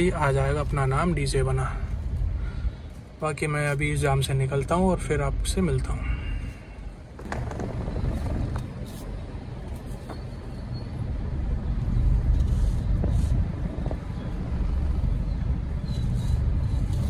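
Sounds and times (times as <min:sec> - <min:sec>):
traffic rumble inside car: 0:00.0 - 0:17.0.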